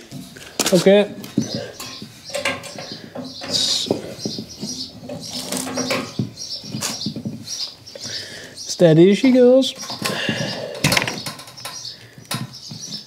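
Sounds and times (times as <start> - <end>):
parts and tools clattering: 0.0 - 7.7, 9.2 - 12.6.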